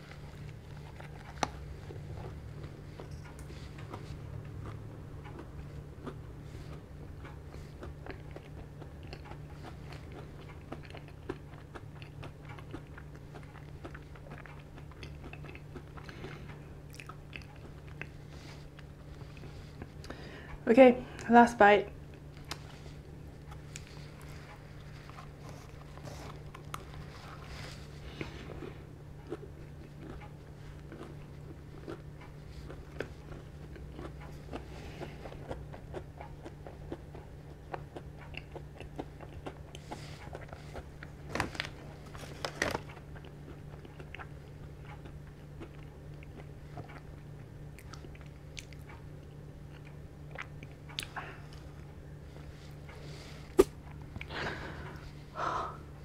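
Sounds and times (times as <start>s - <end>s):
close chewing mouth sounds: 0.0s - 21.3s, 21.9s - 56.0s
steady low hum: 0.0s - 56.0s.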